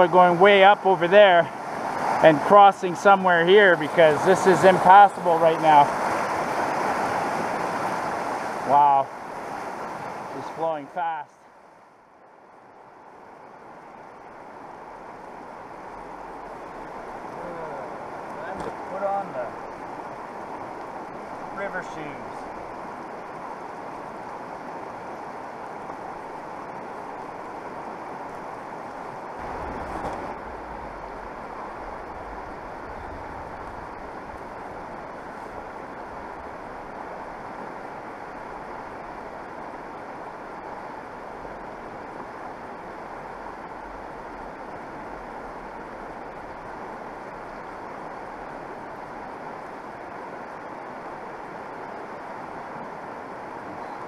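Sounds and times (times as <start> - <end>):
fast-flowing river rushing: 0.0 - 54.0.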